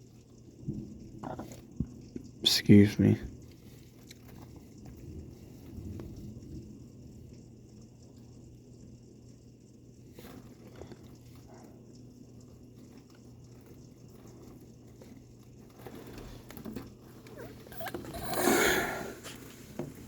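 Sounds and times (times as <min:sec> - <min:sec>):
light rain pattering: 0:00.0 - 0:20.0.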